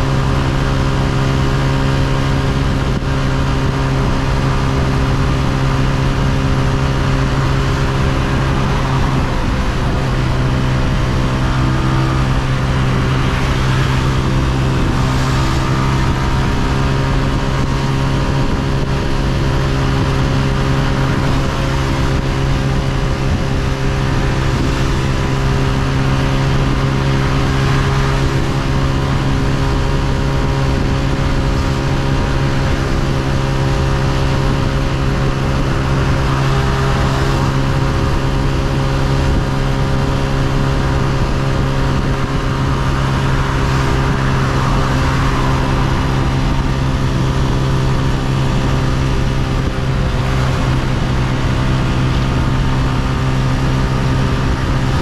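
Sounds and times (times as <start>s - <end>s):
motorcycle engine running: 0.0s - 55.0s
road and wind hiss: 0.0s - 55.0s.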